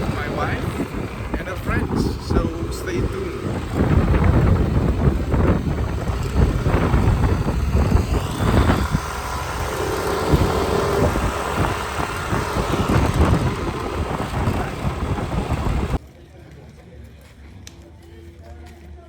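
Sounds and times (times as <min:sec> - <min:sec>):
wind buffeting microphone: 0:00.0 - 0:16.0
vehicle engine and road rumble: 0:00.0 - 0:19.0.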